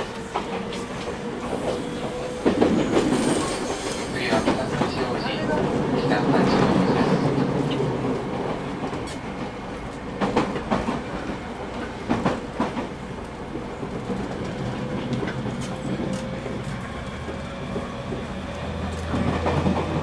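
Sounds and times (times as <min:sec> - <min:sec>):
train running gear rumble: 0:00.0 - 0:20.0.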